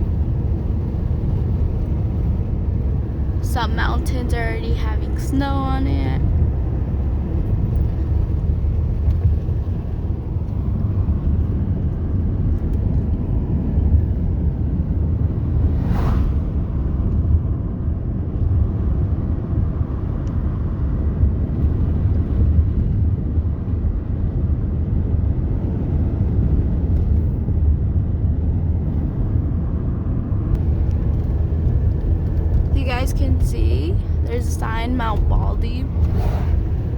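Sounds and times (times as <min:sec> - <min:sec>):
car road and engine rumble: 0:00.0 - 0:36.9.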